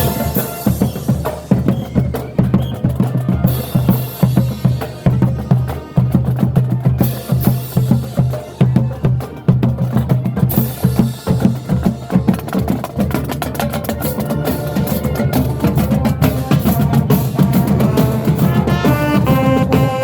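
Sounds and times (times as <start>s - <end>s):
marching band drumline: 0.0s - 20.0s.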